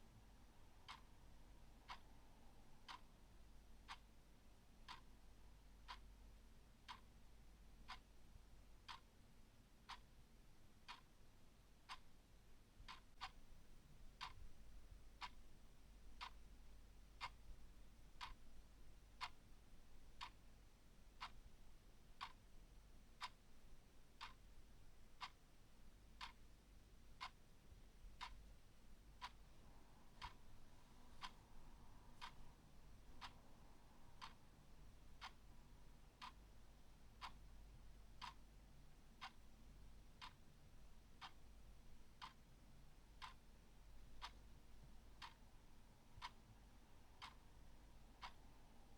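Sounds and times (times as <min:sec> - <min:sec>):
clock ticking: 0:00.7 - 0:10.2, 0:10.8 - 0:48.9.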